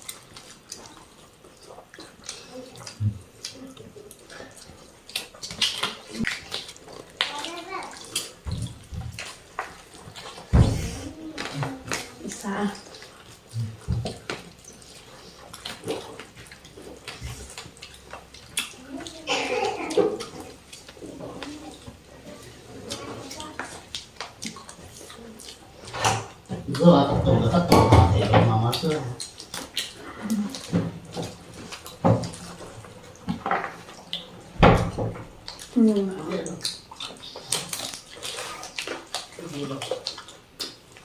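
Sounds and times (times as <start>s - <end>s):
lip smacks: 0.0s - 19.3s, 22.8s - 26.8s, 28.6s - 41.0s
chewing with wet clicks: 0.0s - 41.0s.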